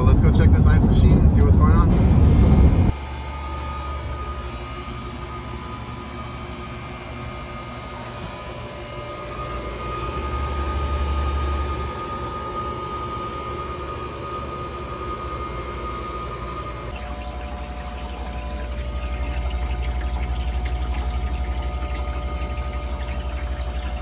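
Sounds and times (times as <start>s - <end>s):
low mechanical drone: 0.0s - 24.0s
thin steady whine: 0.0s - 24.0s.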